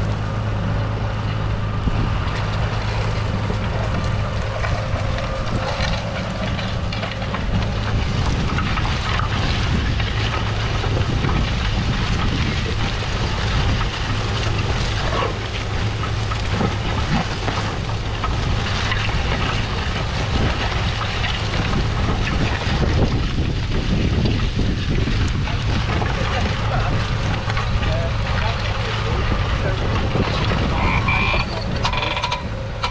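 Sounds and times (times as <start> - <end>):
soil rushing and crackling: 0.0 - 32.9
tractor diesel engine pulling: 0.0 - 32.9.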